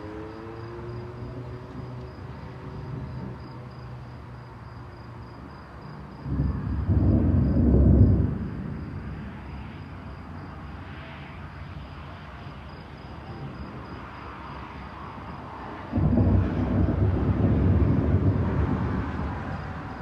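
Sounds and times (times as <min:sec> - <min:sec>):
thunder rumbling: 0:00.1 - 0:20.0.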